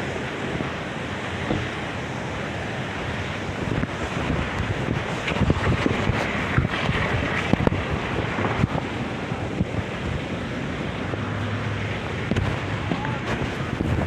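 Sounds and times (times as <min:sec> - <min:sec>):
heavy surf rushing: 0:00.0 - 0:14.0
strong wind buffeting microphone: 0:00.0 - 0:14.0.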